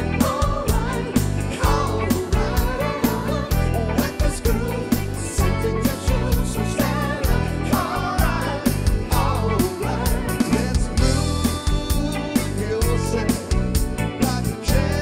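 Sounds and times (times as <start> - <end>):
bass: 0.0 - 15.0
man singing lead: 0.0 - 15.0.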